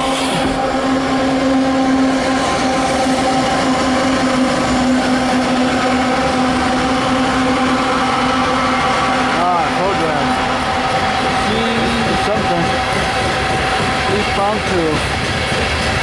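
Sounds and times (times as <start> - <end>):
train rolling by: 0.0 - 16.0.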